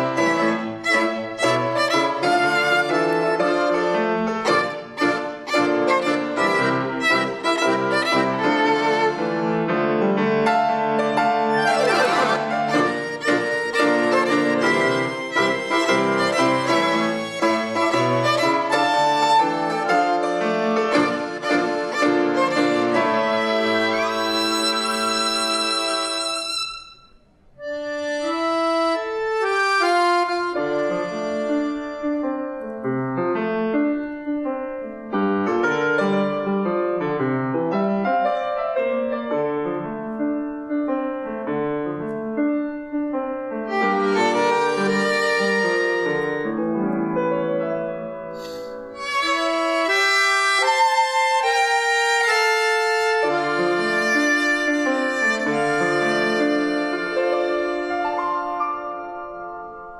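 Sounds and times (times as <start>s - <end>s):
accordion: 0.0s - 32.7s, 43.6s - 59.9s
violin: 0.0s - 32.8s, 43.4s - 59.9s
piano: 0.0s - 59.9s.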